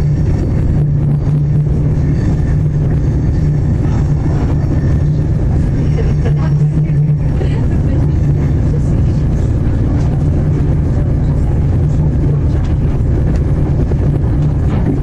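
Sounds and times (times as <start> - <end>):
train diesel engine drone: 0.0 - 15.0
wheels rumbling on rail: 0.0 - 15.0.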